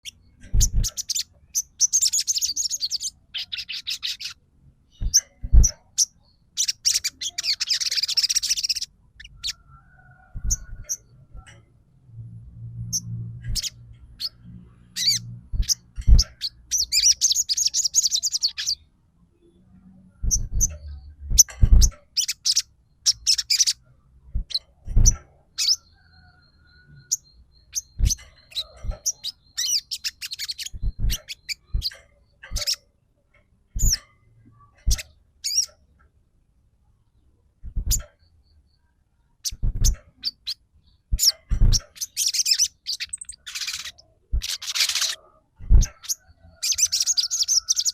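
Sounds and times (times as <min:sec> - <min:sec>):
songbird chirping and twittering: 0:00.0 - 0:47.9.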